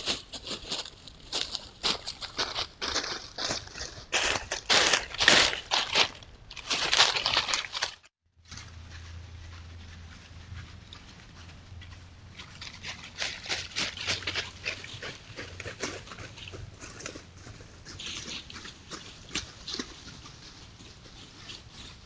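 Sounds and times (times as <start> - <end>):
footsteps crunching dry leaves: 0.0 - 22.0.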